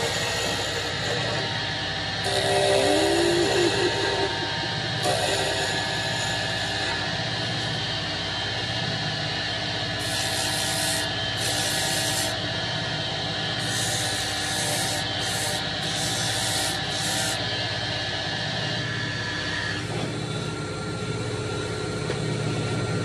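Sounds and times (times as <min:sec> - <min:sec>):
wood lathe motor running: 0:00.0 - 0:20.3.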